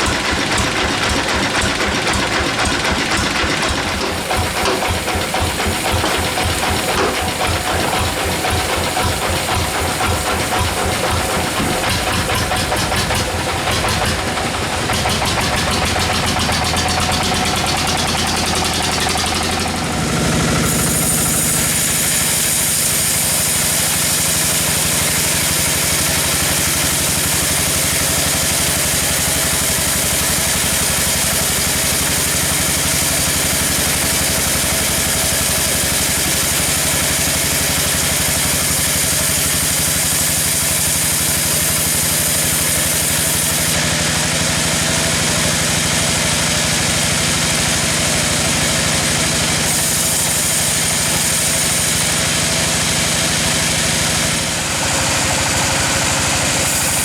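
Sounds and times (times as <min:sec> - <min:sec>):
sawmill machinery engine running: 0:00.0 - 0:57.0.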